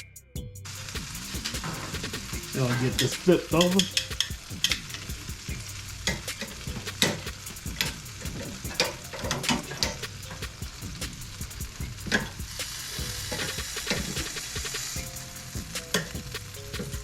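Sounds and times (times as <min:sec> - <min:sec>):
chicken sizzling on a grill: 0:00.7 - 0:17.0.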